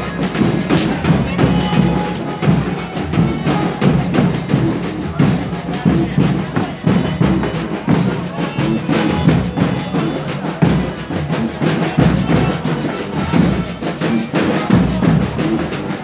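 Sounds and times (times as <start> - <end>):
accordion: 0.0 - 16.0
drums beating: 0.0 - 16.0
maraca shaking: 0.0 - 16.0.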